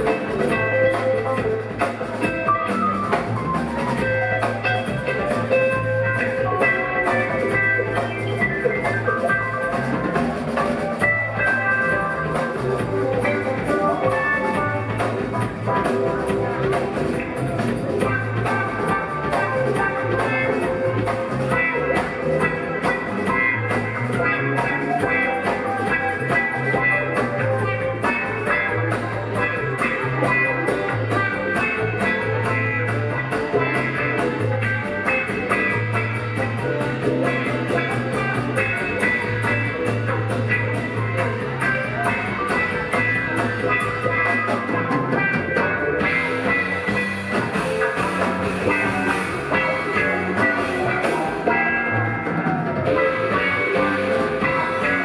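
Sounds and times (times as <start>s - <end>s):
bass guitar: 0.0s - 55.0s
drum kit: 0.0s - 55.0s
electric lead guitar: 0.0s - 55.0s
keyboards: 0.0s - 55.0s.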